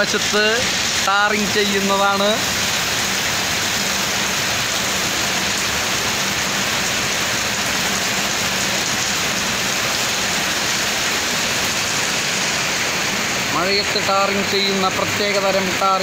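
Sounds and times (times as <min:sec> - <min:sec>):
heavy rain on a road: 0:00.0 - 0:16.0.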